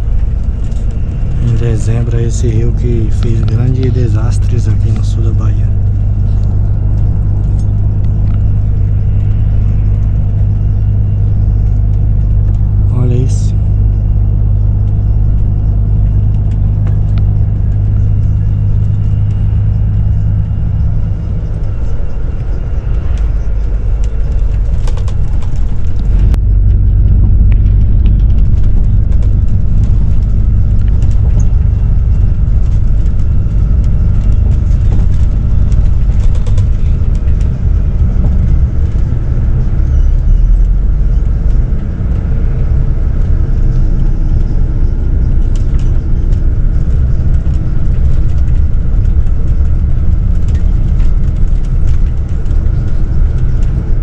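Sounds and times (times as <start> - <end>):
bus engine and road rumble: 0.0 - 54.0
light rattles: 0.0 - 54.0.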